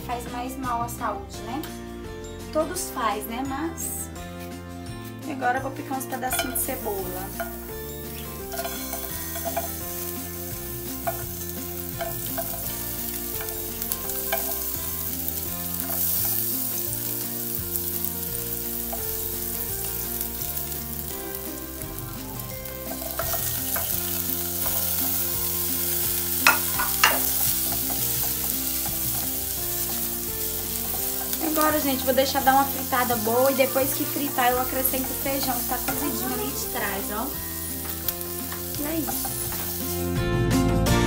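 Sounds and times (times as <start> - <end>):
onion and sausage sizzling: 5.3 - 41.0.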